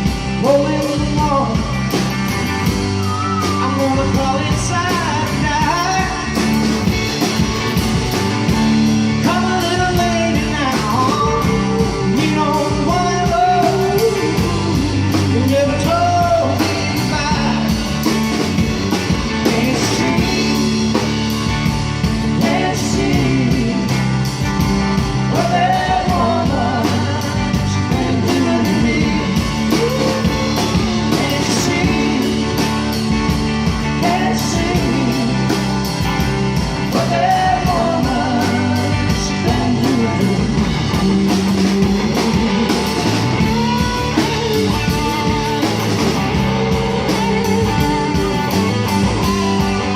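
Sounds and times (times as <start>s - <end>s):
live band playing: 0.0s - 49.9s
person singing: 2.9s - 7.2s, 9.2s - 18.1s, 19.0s - 21.3s, 22.0s - 24.4s, 25.1s - 33.1s, 33.7s - 35.8s, 36.8s - 49.9s.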